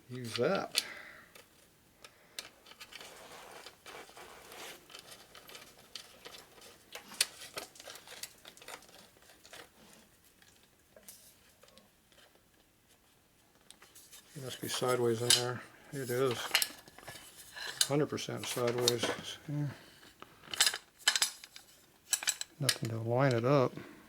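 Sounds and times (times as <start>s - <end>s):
soft rustling: 2.7s - 22.1s.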